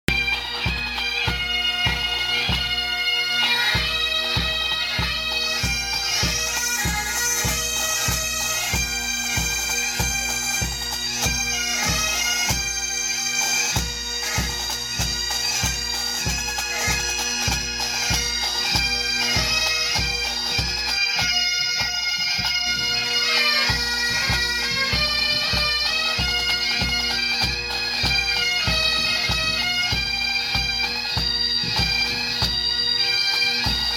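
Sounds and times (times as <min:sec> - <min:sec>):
bagpipes playing over drones: 0:00.1 - 0:33.9.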